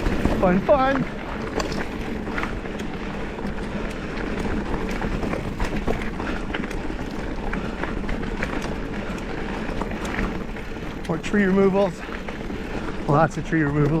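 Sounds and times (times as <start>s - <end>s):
tyre and wind rush: 0.0s - 13.4s
bike clicks and rattles: 0.0s - 14.0s.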